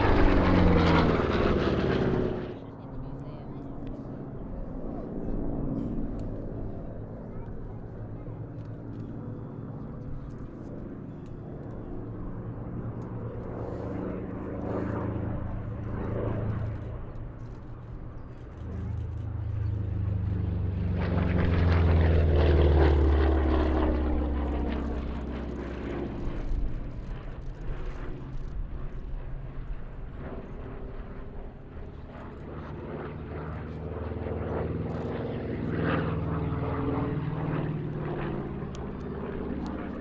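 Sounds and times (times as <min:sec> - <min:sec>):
propeller plane flying past: 0:00.0 - 0:40.0.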